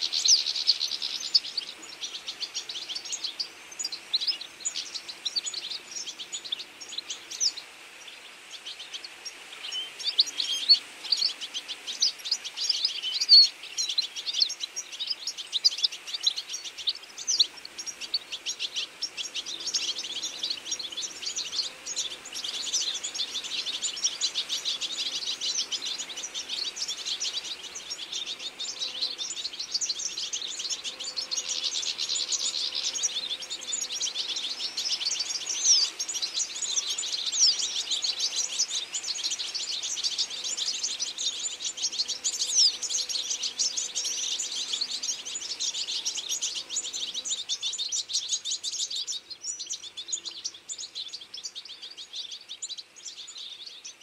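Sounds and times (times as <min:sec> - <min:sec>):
finches twittering: 0:00.0 - 0:54.0.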